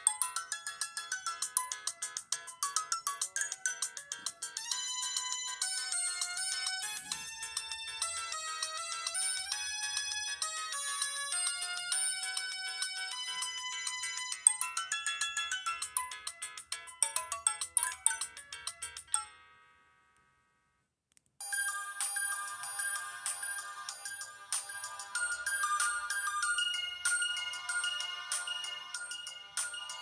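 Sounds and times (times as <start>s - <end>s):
electronic ringtone melody: 0.0s - 19.5s, 21.4s - 30.0s.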